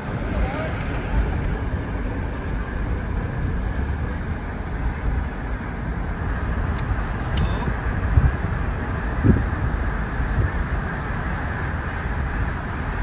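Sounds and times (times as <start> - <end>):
car road and tyre noise: 0.0 - 13.0.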